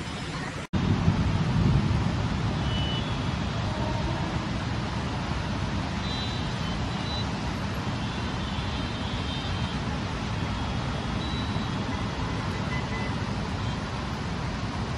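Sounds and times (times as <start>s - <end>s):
distant city traffic rumble: 0.0s - 14.9s.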